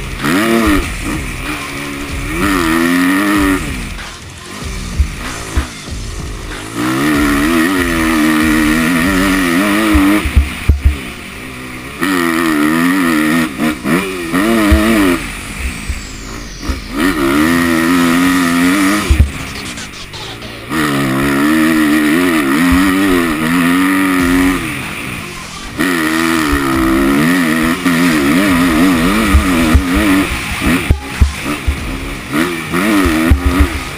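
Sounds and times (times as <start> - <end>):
sharp thumps: 0.0 - 11.4, 12.0 - 33.9
motocross engine revving: 0.0 - 33.9.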